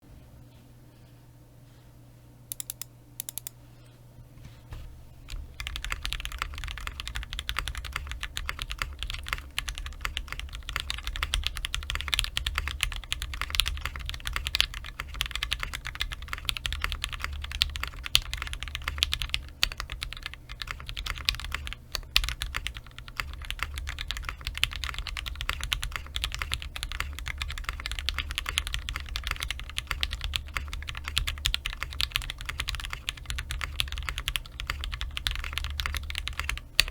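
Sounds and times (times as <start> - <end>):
fast typing on mechanical keyboard: 5.3 - 36.9.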